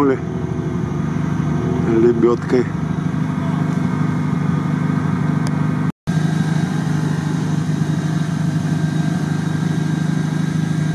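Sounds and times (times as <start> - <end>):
vehicle engines idling: 0.0 - 10.9.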